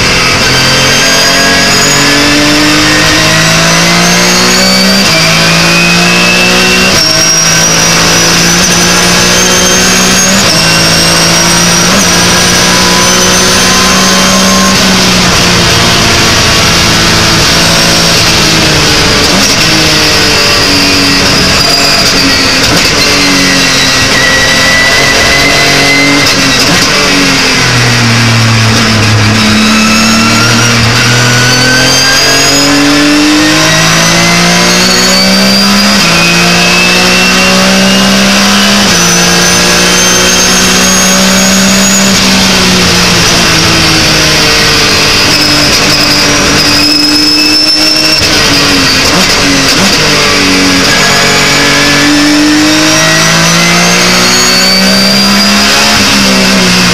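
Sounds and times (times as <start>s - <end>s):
high engine whine: 0.0s - 56.9s
race car engine at speed: 0.0s - 56.9s.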